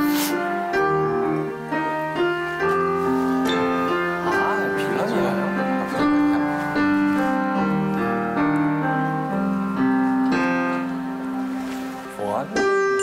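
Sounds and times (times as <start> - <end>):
digital piano chords: 0.0 - 13.0.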